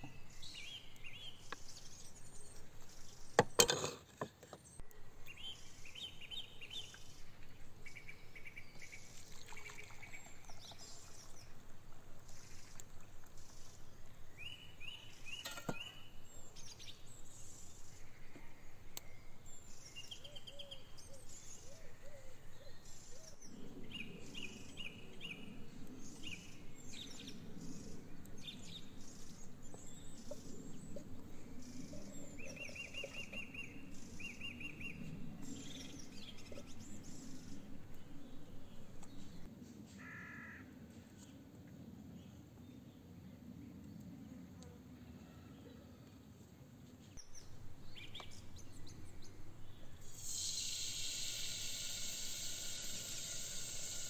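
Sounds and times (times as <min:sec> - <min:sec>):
small birds chirping: 0:00.0 - 0:03.6, 0:04.4 - 0:39.5, 0:47.1 - 0:54.0.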